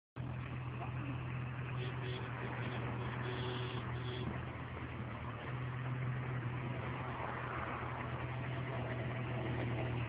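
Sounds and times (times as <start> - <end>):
paving machine engine humming: 0.2 - 10.0.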